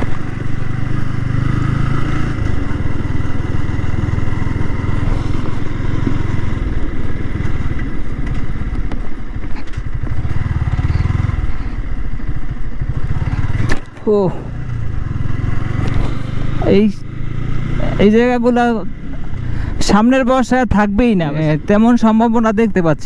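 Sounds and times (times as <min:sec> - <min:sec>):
motorcycle engine running: 0:00.0 - 0:22.6.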